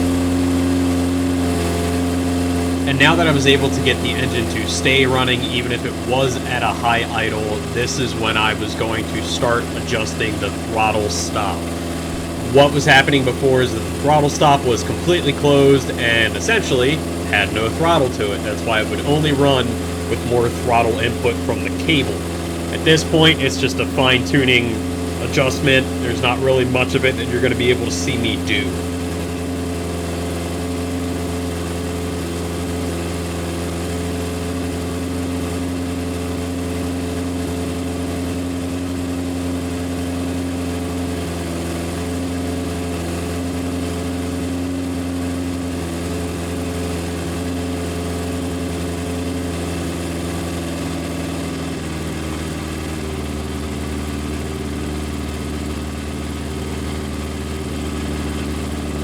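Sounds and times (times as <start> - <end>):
racecar engine at high idle: 0.0 - 59.0.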